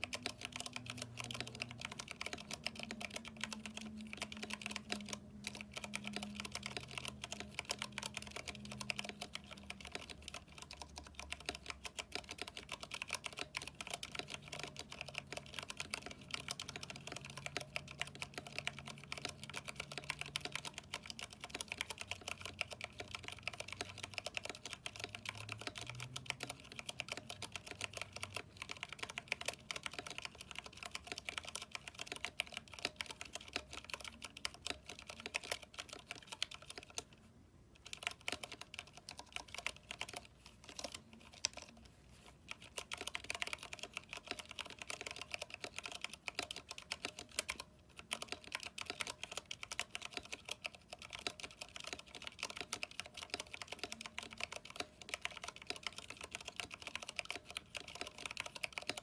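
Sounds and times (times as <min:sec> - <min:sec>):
fast mechanical keyboard typing: 0:00.0 - 0:37.2, 0:37.8 - 0:59.0.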